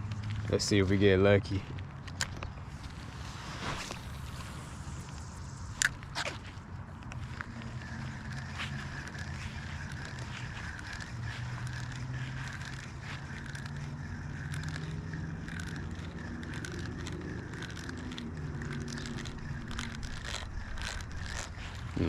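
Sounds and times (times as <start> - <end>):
fishing reel whirring and clicking: 0.0 - 22.0
low steady hum: 0.0 - 22.0.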